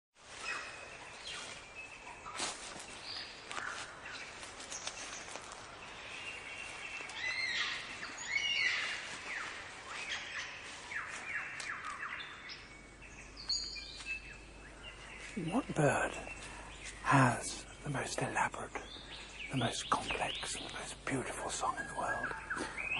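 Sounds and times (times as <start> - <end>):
birds singing: 0.3 - 22.9.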